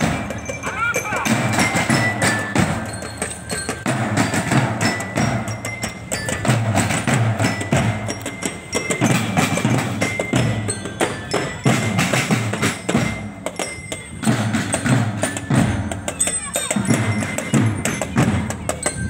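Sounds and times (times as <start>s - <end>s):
high ringing notes: 0.0s - 19.0s.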